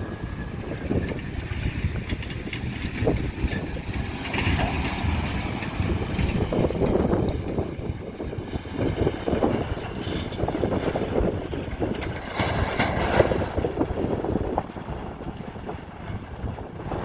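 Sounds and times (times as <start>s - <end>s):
harvest machinery rumbling: 0.0s - 17.0s
wind on microphone: 0.0s - 17.0s.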